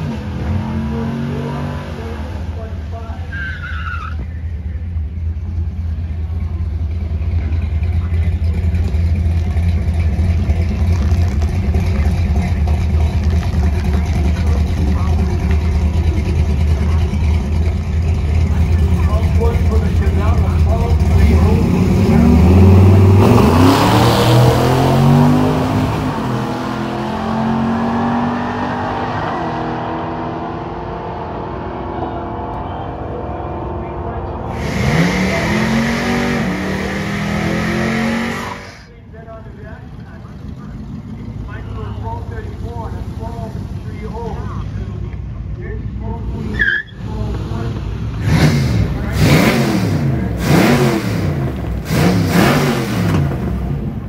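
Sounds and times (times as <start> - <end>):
car engine rumbling at low revs: 0.0 - 54.0.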